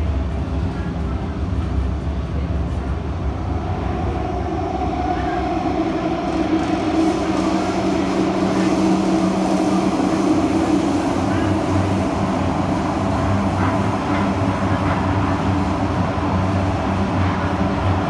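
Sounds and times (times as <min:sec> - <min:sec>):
metro train rumbling: 0:00.0 - 0:18.0.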